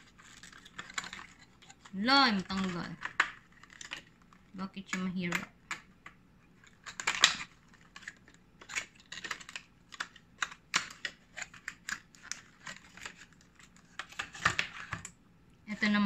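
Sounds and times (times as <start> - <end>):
plastic packaging crackling: 0.0 - 15.2.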